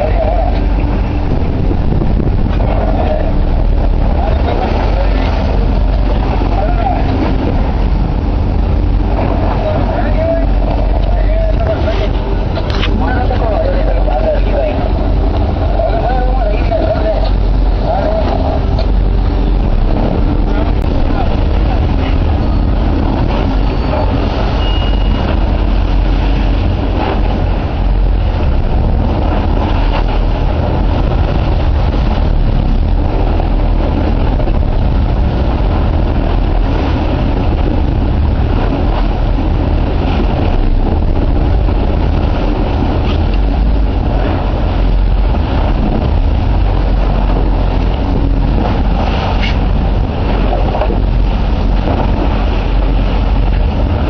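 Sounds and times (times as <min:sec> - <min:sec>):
boat engines rumbling: 0:00.0 - 0:54.0
water noise: 0:00.0 - 0:54.0
wind: 0:00.0 - 0:54.0.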